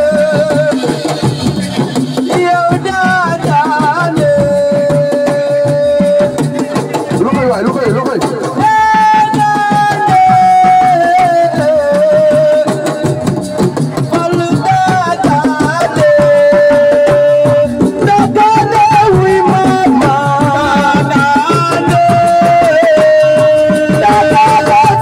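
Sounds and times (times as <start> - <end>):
fast dense drumming: 0.0 - 25.0.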